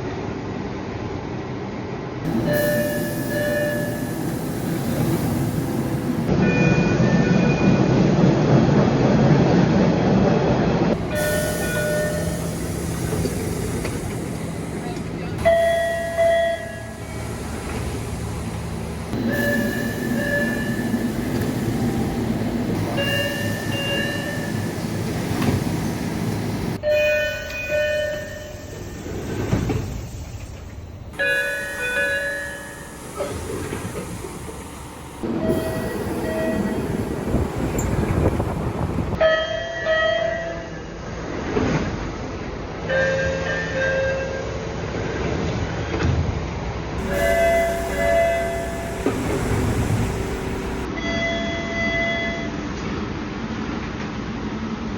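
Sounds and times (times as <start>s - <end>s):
train rumble at platform: 0.0s - 54.9s.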